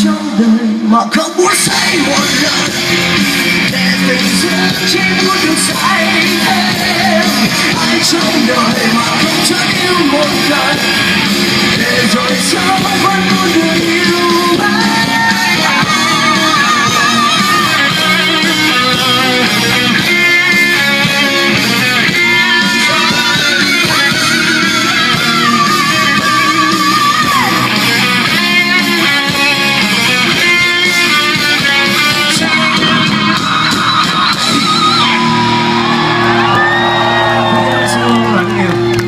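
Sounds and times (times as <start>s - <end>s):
electric guitar lead with bent notes: 0.0s - 39.0s
live rock band playing: 0.0s - 39.0s.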